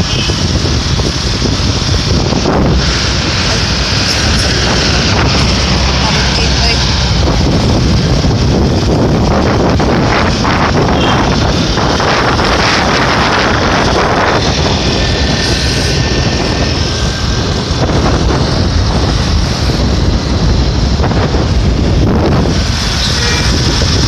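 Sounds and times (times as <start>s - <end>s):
motorcycle engine rumble: 0.0s - 24.0s
road noise: 0.0s - 24.0s
wind buffeting microphone: 0.0s - 24.0s.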